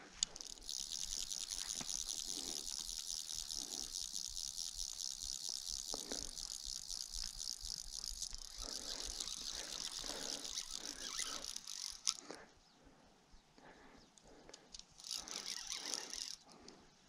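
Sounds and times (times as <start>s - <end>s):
fishing reel ratchet clicking: 0.1s - 12.4s, 14.5s - 16.8s.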